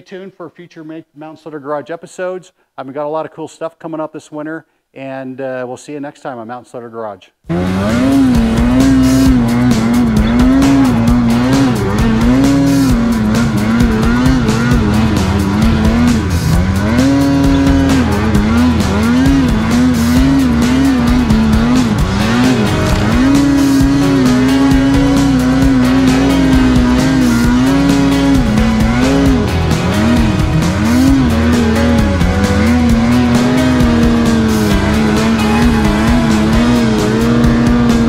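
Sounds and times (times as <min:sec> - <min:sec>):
snowmobile engine revving: 0:07.5 - 0:38.0.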